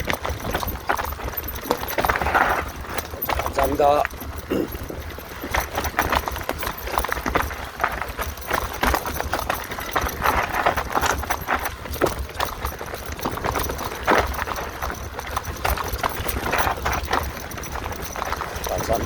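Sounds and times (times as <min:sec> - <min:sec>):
mountain bike rattling over trail: 0:00.0 - 0:19.0.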